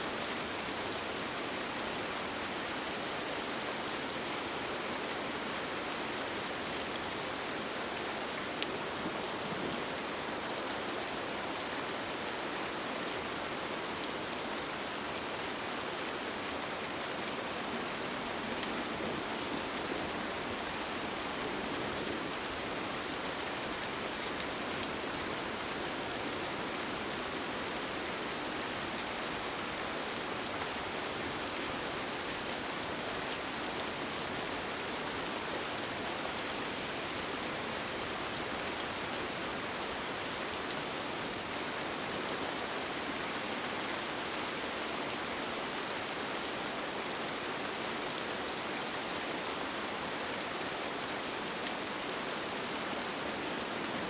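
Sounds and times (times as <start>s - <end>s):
rain falling on a tent: 0.0s - 54.0s.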